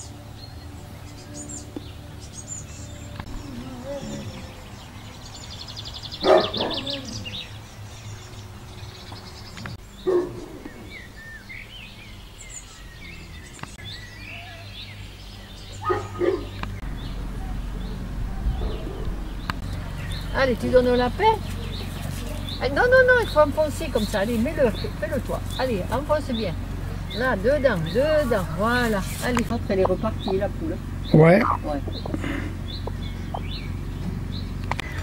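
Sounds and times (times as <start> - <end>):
songbirds singing: 0.0 - 35.0.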